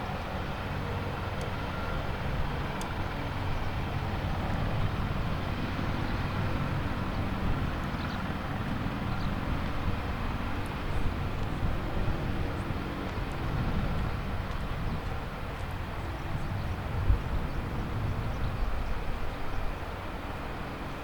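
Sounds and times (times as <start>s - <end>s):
helicopter low drone: 0.0s - 21.0s.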